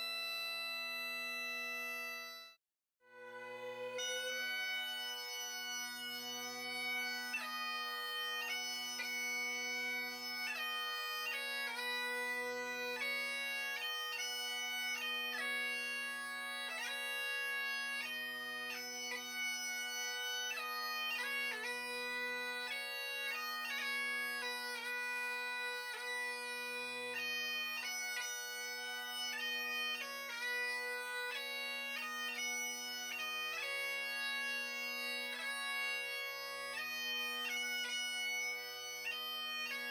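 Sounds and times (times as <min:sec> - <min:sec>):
bagpipe melody over drones: 0:03.1 - 0:39.9.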